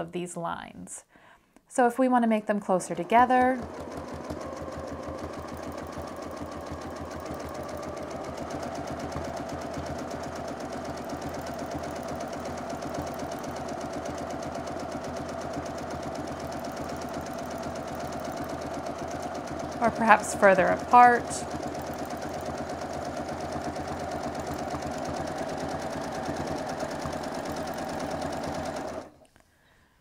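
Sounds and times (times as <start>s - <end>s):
sewing machine stitching: 2.7s - 29.2s.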